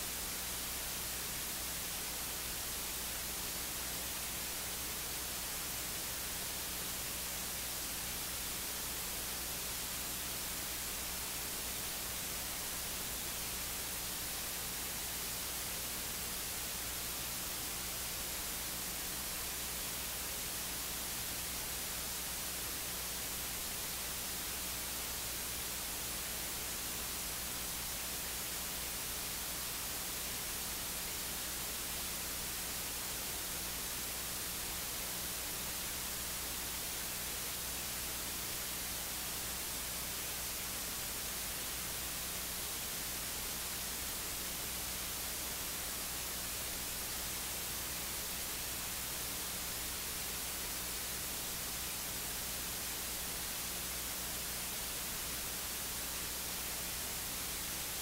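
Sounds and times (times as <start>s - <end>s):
electronic hiss: 0.0s - 58.0s.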